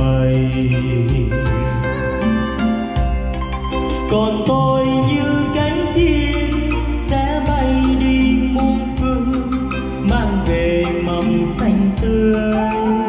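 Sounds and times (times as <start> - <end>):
man singing with echo: 0.0 - 2.4, 3.9 - 13.0
karaoke backing track: 0.0 - 13.0.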